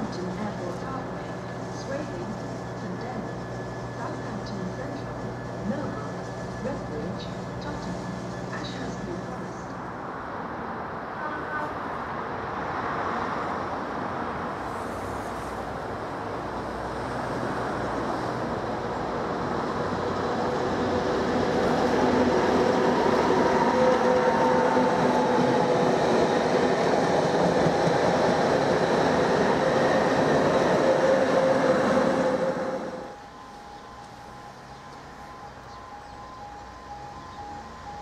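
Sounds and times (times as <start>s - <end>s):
steady whine of passing train: 0.0s - 38.0s.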